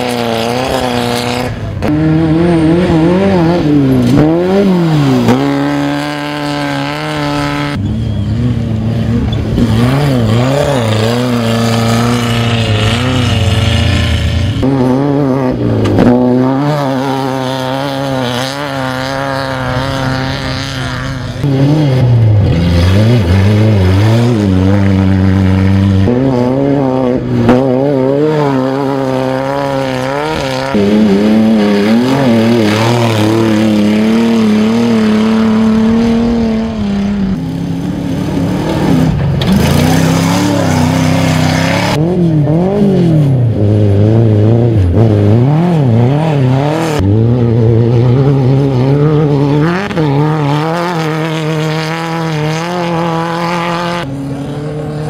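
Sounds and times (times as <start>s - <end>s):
off-road engines revving: 0.0s - 55.0s.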